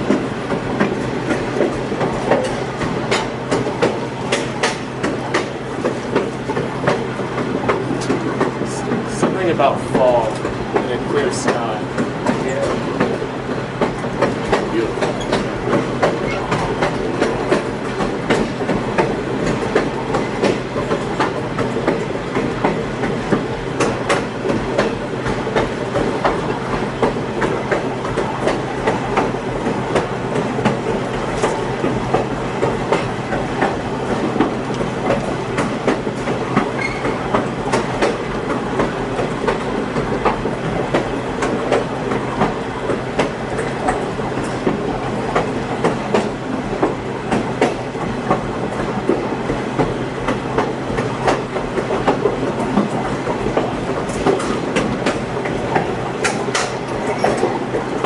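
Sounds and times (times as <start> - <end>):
wheels clicking and knocking: 0.0 - 13.2, 13.8 - 58.0
train rumbling on track: 0.0 - 58.0.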